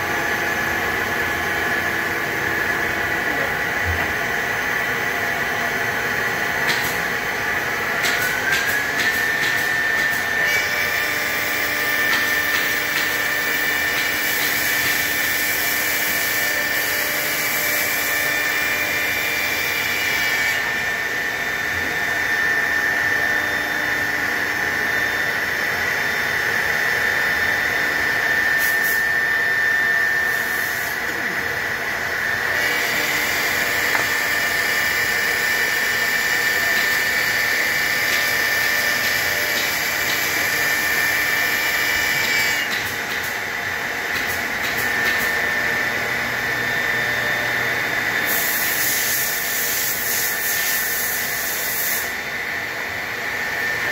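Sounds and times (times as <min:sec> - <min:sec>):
router spindle whine: 0:00.0 - 0:53.9.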